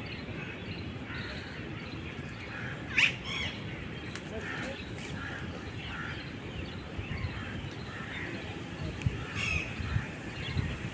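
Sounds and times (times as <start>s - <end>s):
birds calling: 0.0s - 10.9s.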